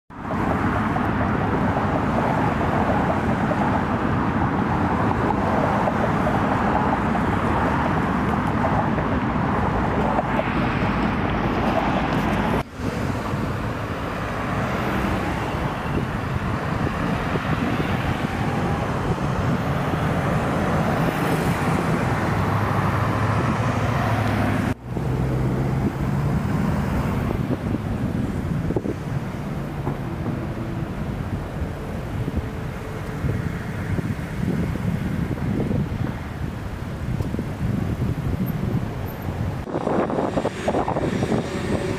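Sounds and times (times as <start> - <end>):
road traffic noise: 0.1 - 41.9.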